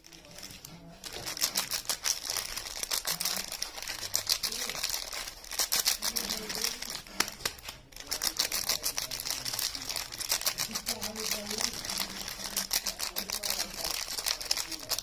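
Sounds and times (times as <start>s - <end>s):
wrapper crinkling: 0.0s - 15.0s.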